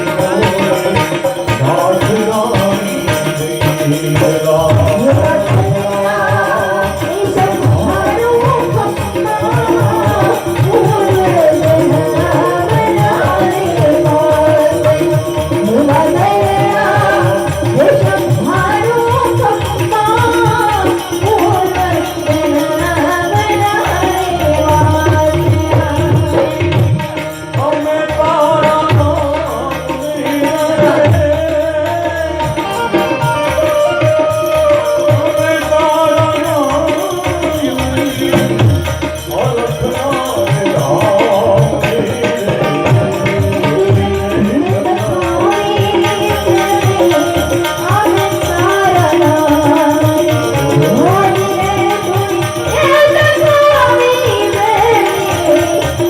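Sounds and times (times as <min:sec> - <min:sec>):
tabla rhythm: 0:00.0 - 0:56.0.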